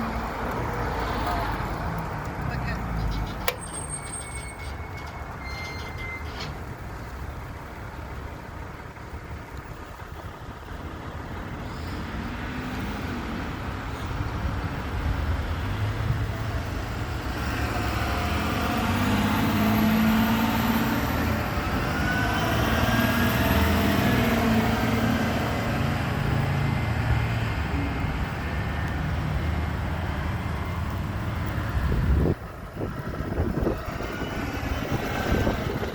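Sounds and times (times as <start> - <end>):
motor vehicles going by: 0.0 - 35.9.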